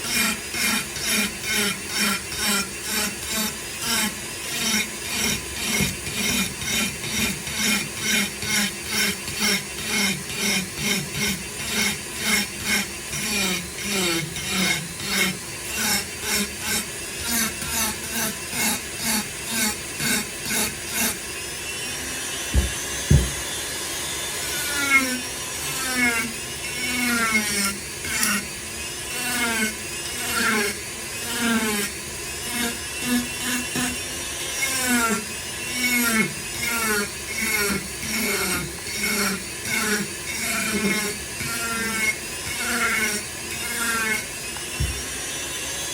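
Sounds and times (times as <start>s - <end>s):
rotary tool grinding wood: 0.0s - 45.9s.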